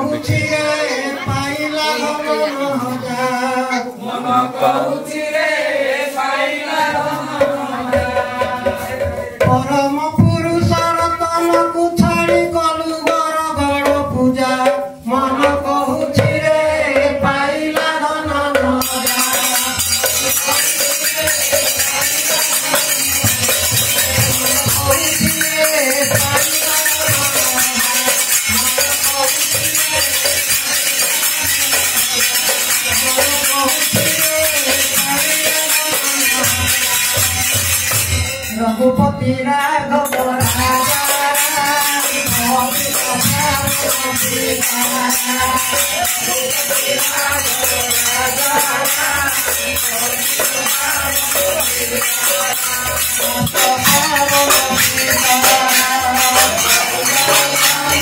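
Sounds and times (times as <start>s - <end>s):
group singing: 0.0s - 58.0s
barrel drum: 6.7s - 58.0s
hand cymbals clashing: 8.7s - 39.0s, 40.1s - 58.0s.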